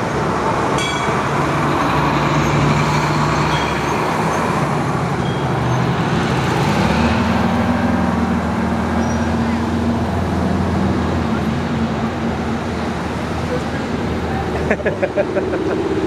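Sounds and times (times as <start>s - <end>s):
fire truck engines humming: 0.0s - 16.0s
road noise: 0.0s - 16.0s.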